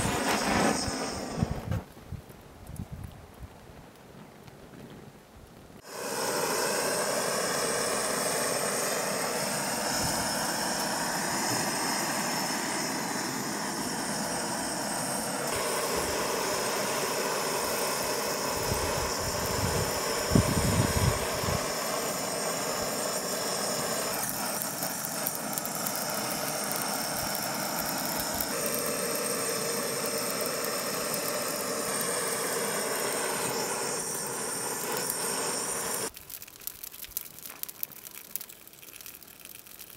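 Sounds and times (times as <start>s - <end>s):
blowtorch flame hissing: 0.0s - 1.9s, 5.8s - 39.9s.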